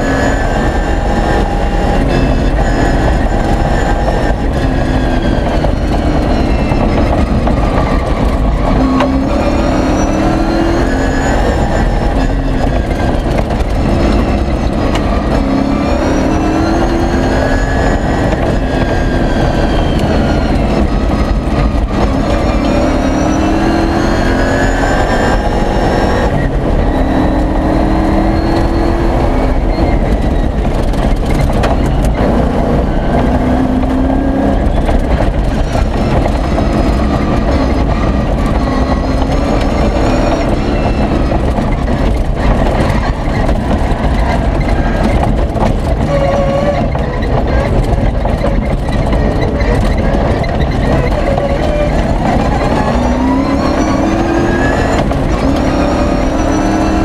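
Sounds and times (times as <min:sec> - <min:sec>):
engine accelerating through gears: 0:00.0 - 0:57.0.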